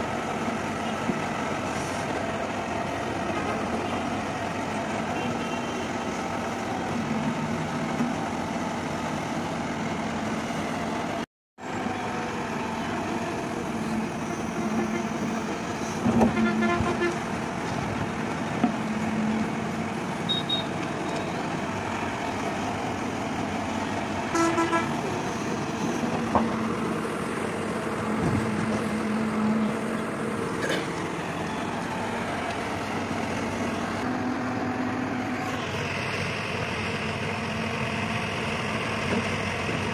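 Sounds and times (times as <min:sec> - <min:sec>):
excavator diesel engine running: 0:00.0 - 0:39.9
excavator digging earth: 0:00.0 - 0:39.9.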